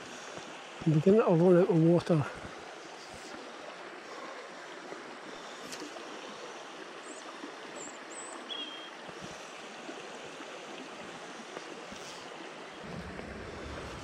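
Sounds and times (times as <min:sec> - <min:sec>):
stream flowing over stones: 0:00.0 - 0:14.0.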